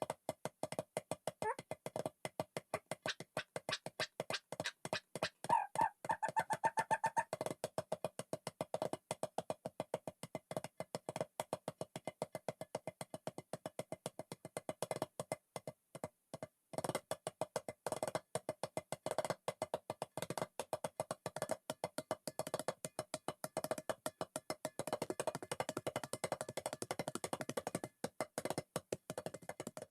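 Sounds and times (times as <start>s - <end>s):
fast clicking percussion beat: 0.0s - 15.2s, 16.8s - 29.9s.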